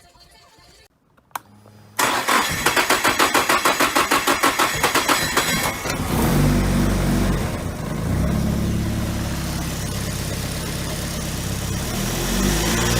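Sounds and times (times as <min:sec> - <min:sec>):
car engine starting and idling: 0:01.4 - 0:12.9.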